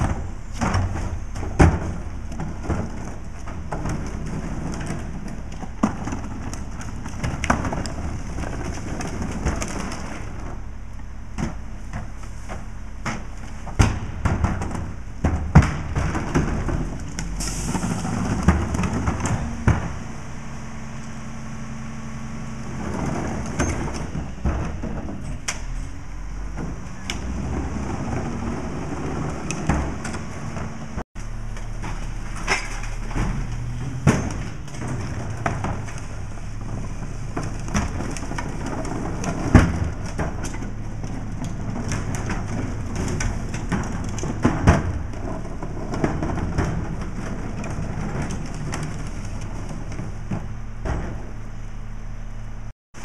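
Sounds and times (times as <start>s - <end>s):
clanks and thuds of trash carts: 0.0s - 53.0s
garbage truck engine idling: 0.0s - 53.0s.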